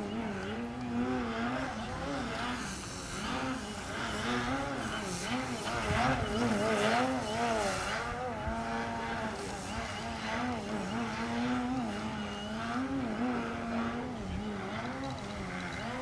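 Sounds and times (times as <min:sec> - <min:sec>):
model plane motor buzzing: 0:00.0 - 0:16.0.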